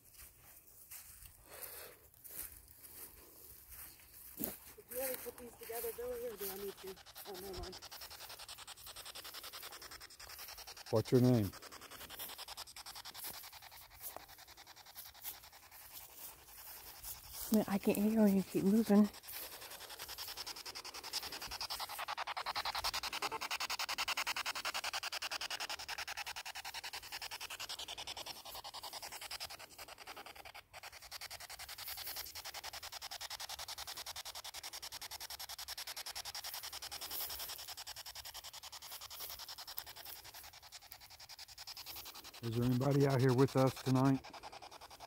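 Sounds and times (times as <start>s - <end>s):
pulsing radio static hiss: 3.3s - 29.9s, 35.3s - 45.0s.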